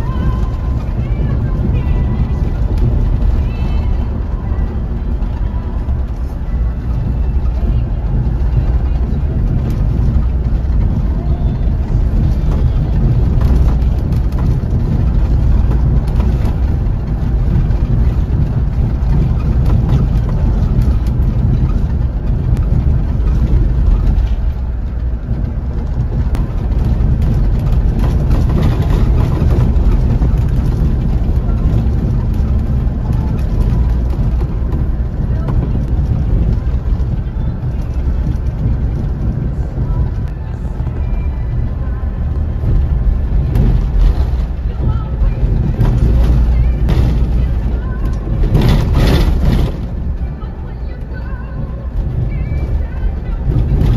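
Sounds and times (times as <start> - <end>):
bus engine drone: 0.0 - 53.9
road noise: 0.0 - 53.9.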